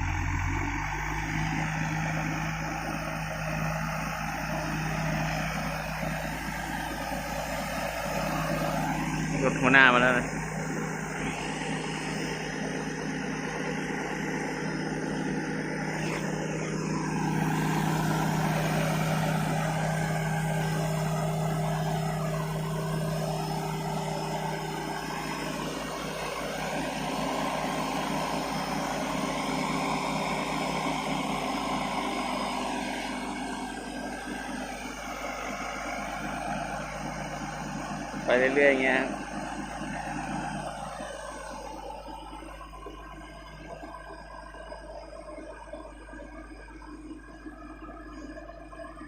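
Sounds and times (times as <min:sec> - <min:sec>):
diesel truck engine under load: 0:00.0 - 0:49.0.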